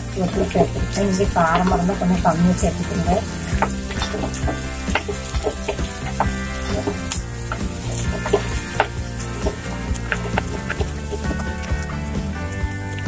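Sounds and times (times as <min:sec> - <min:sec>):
food sizzling in oil: 0:00.0 - 0:13.0
spatula scraping a pan: 0:00.3 - 0:12.4.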